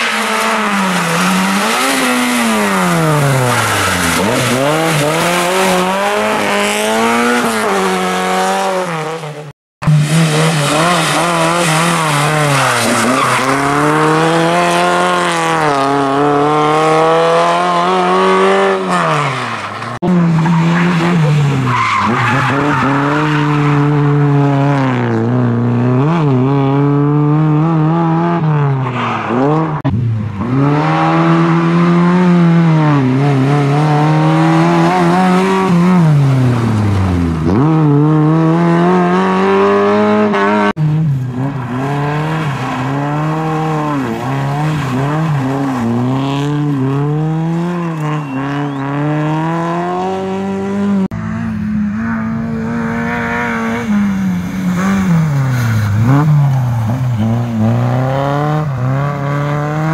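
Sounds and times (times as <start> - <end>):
rally car engine revving hard: 0.0 - 19.3, 20.0 - 59.9.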